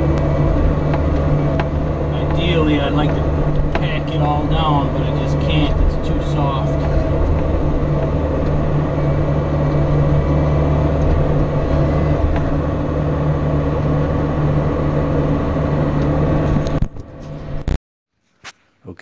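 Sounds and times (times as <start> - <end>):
excavator diesel engine running: 0.0 - 17.7.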